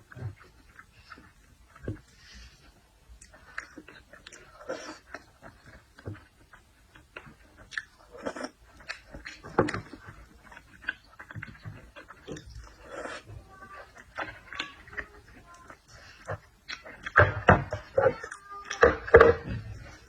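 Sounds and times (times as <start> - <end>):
person chewing seafood: 0.0 - 20.0.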